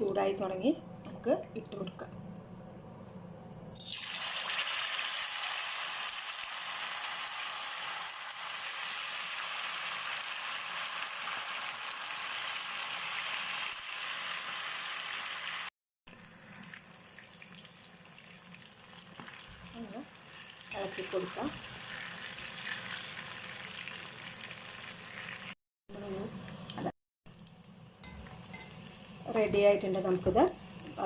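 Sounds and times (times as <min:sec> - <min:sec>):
chicken sizzling in hot oil: 0:03.8 - 0:31.0.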